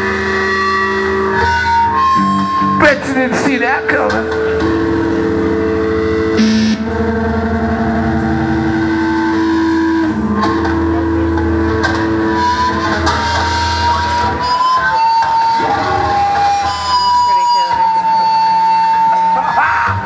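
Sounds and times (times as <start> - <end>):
high wavering tone: 0.0 - 19.9
amplified electric guitars droning: 0.0 - 20.0.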